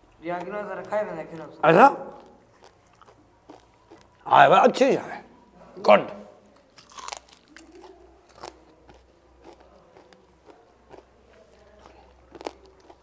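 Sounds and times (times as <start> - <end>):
chewing crispy fried chicken: 0.0 - 4.3, 6.4 - 13.0.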